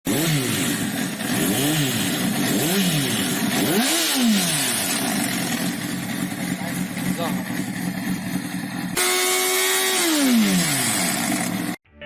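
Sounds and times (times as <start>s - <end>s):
motorcycle engine revving: 0.1s - 11.8s.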